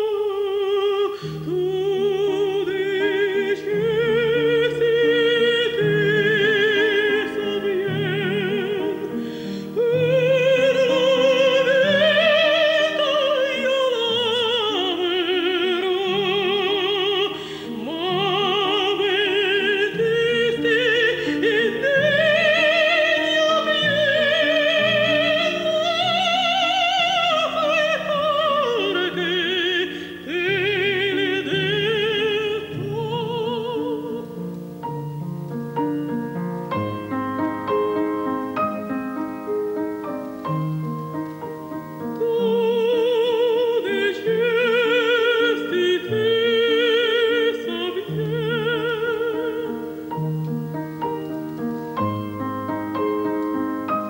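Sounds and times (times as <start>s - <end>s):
woman singing operatically: 0.0s - 34.8s, 41.5s - 50.1s.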